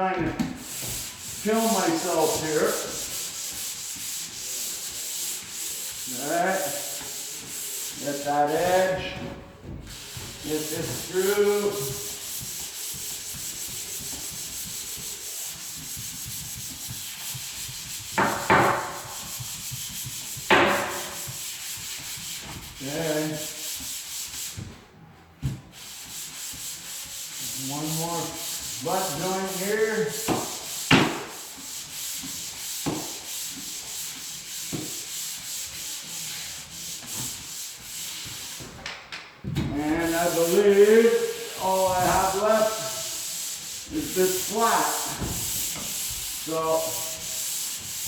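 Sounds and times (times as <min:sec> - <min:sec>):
sandpaper scratching drywall: 0:00.4 - 0:24.8, 0:25.5 - 0:38.8, 0:39.7 - 0:48.0.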